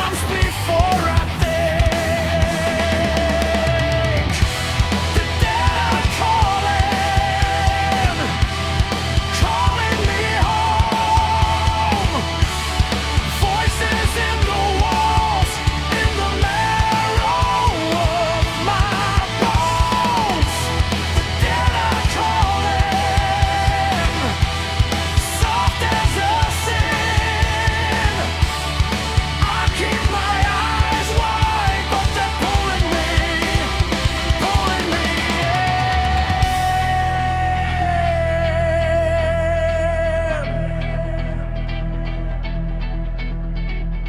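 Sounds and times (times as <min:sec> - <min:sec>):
heavy rock music: 0:00.0 - 0:44.0.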